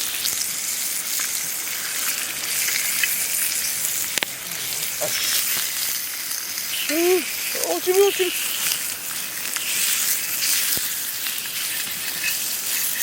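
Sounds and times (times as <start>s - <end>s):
meat sizzling over fire: 0.0s - 13.0s.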